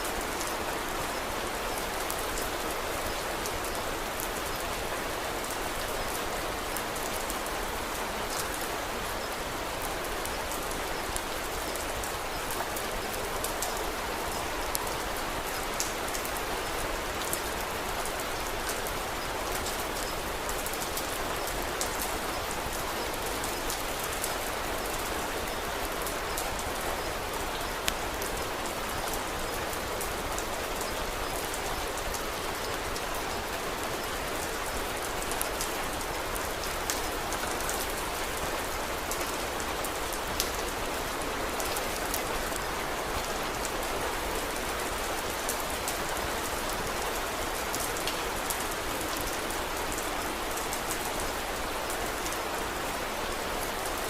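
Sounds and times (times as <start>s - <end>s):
rain hiss: 0.0s - 54.0s.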